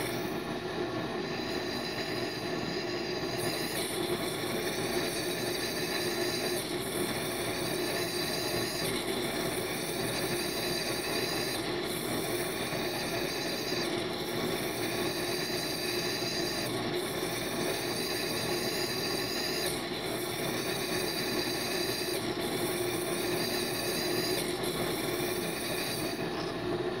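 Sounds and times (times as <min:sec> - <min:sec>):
liquid nitrogen hissing from nozzle: 0:03.0 - 0:26.4.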